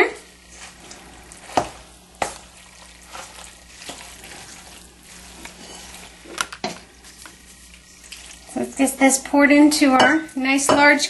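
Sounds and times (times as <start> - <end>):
spoon stirring thick mixture: 0.3 - 11.0.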